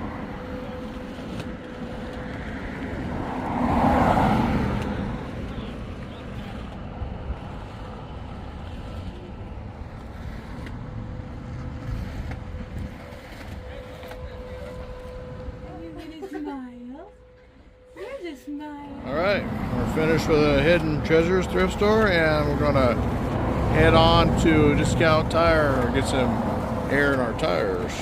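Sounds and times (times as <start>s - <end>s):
low rumble of traffic: 0.0s - 28.0s
vehicle passing: 0.0s - 28.0s.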